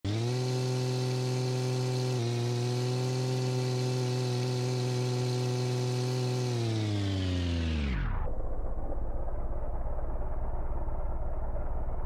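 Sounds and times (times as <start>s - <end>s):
synthesized tractor engine drone: 0.1s - 12.0s.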